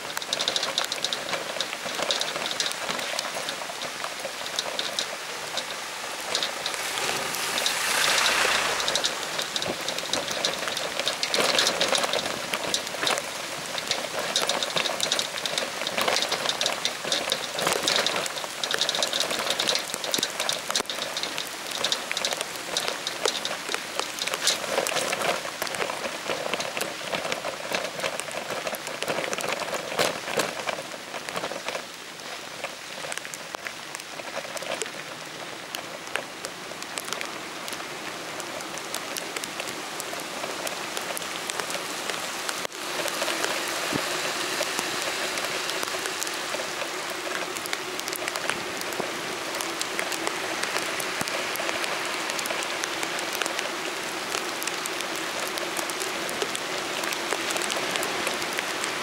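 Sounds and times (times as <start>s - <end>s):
rain falling steadily: 0.0s - 59.0s
raindrops ticking on a surface: 0.0s - 59.0s.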